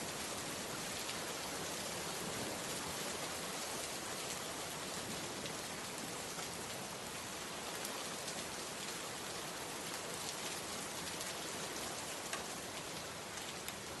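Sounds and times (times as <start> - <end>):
rain pattering on a surface: 0.0 - 14.0.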